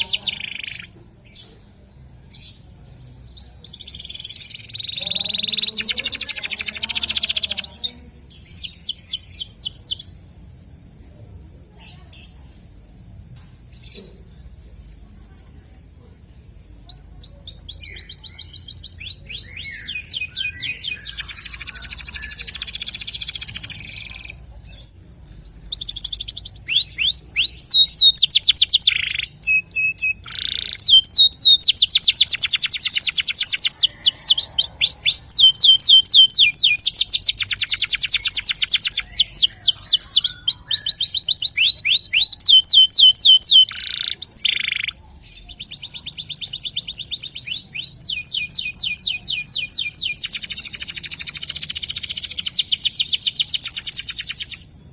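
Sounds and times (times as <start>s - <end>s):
canary trilling: 0.0s - 1.5s, 3.2s - 10.2s, 16.9s - 54.7s.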